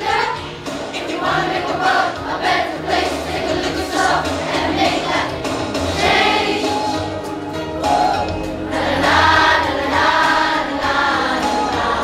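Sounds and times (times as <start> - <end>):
choir singing: 0.0 - 7.3, 7.9 - 12.0.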